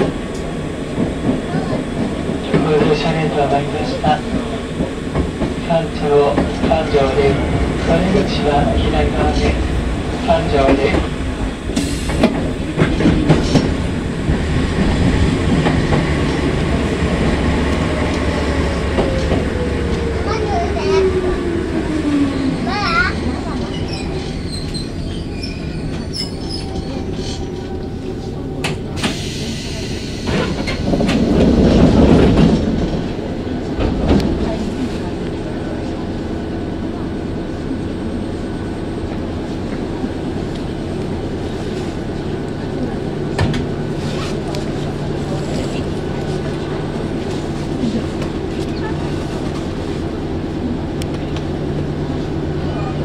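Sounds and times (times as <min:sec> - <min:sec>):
electric train humming: 0:00.0 - 0:53.0.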